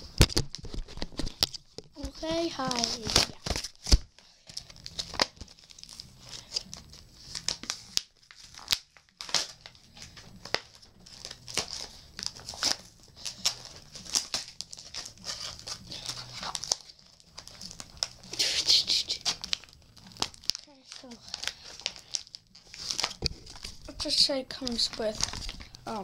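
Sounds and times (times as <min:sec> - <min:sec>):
plastic packaging crinkling: 0:00.0 - 0:18.4, 0:19.2 - 0:26.0.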